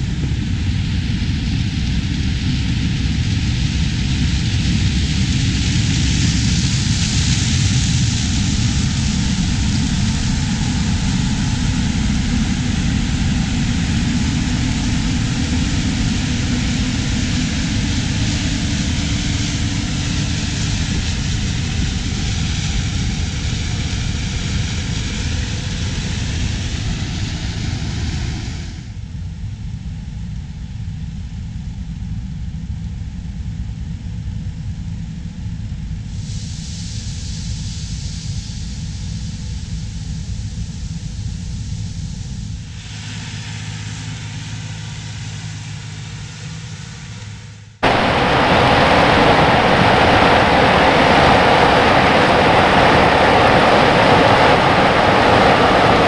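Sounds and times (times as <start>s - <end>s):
combine harvester drone: 0.0s - 29.8s, 34.2s - 56.0s.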